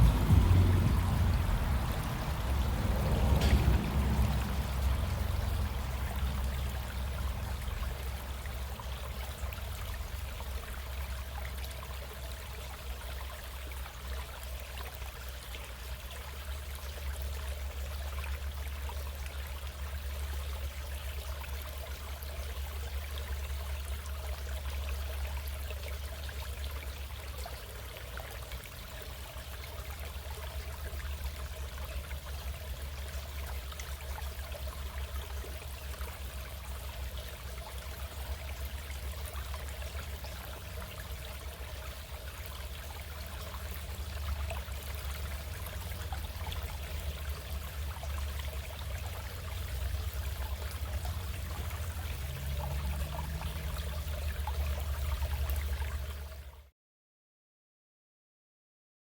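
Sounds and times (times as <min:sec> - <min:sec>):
stream flowing: 0:00.0 - 0:56.7.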